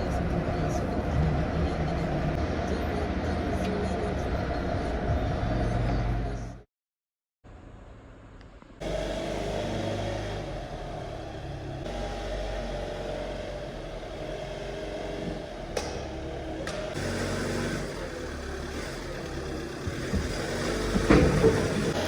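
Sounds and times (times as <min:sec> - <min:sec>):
road noise: 0:00.0 - 0:06.6, 0:07.5 - 0:22.0
truck engine running: 0:00.0 - 0:06.6, 0:08.8 - 0:22.0.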